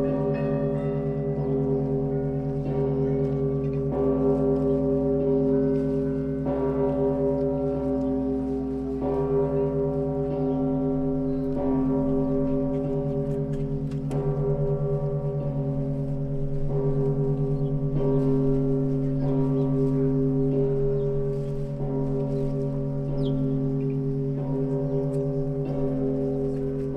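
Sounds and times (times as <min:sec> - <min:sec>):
heavy church bell ringing: 0:00.0 - 0:26.9.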